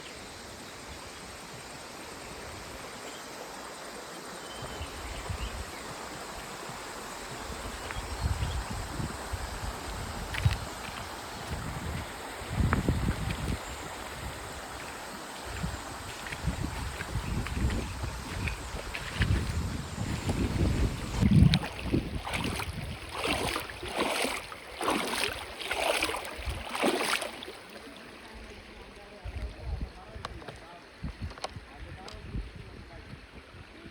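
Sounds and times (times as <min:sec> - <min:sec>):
river water rushing: 0:00.0 - 0:29.2
wind buffeting microphone: 0:04.6 - 0:27.3, 0:29.2 - 0:33.9.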